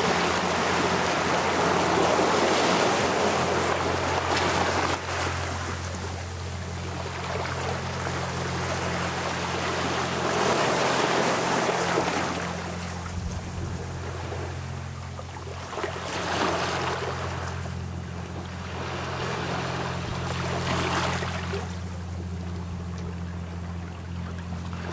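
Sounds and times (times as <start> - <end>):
waves washing over pebbles: 0.0 - 21.8
steady low hum: 0.0 - 24.9.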